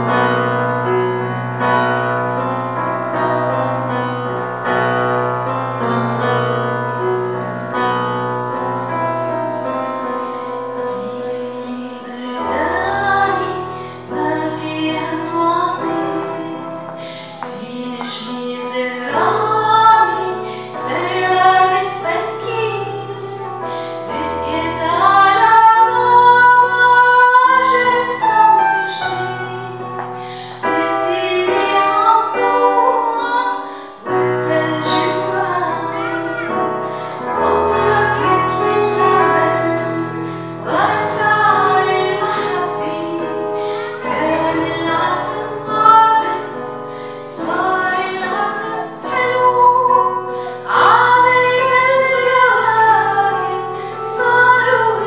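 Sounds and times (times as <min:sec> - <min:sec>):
woman singing: 0:10.8 - 0:55.0.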